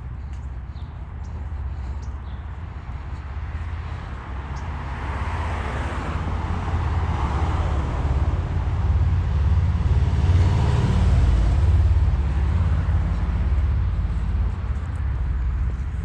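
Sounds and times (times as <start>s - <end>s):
cars passing: 0.0s - 16.0s
deep low traffic rumble: 0.0s - 16.0s.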